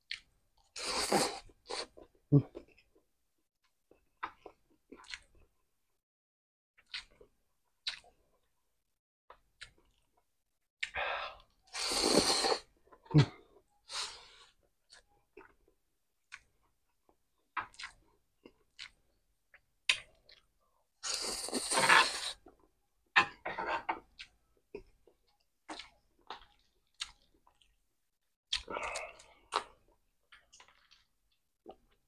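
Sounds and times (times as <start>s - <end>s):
person chewing noodles: 0.1s - 2.8s, 3.9s - 5.5s, 6.8s - 8.5s, 9.3s - 10.2s, 10.8s - 22.6s, 23.4s - 27.8s, 28.5s - 32.0s.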